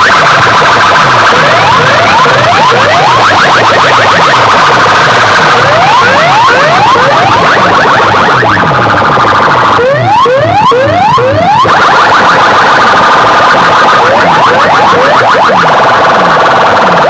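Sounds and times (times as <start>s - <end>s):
electronic siren sound effect: 0.0s - 17.0s.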